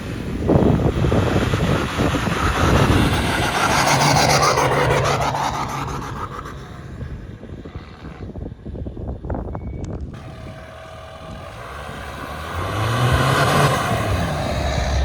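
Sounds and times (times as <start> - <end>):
pickup engine labouring: 0.0 - 7.8, 10.1 - 15.0.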